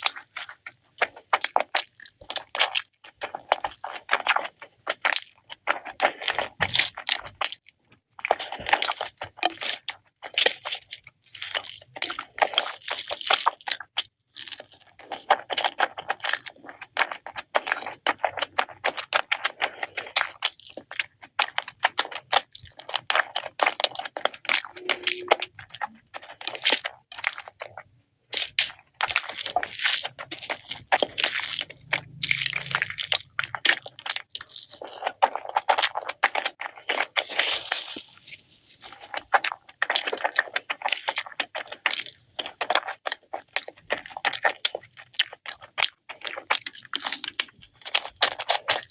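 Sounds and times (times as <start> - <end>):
person chewing and crunching food: 0.0 - 48.9.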